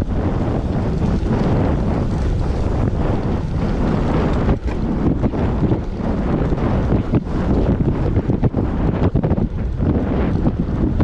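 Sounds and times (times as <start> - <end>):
bicycle knocks and rattles: 0.0 - 11.0
wind buffeting microphone: 0.0 - 11.0.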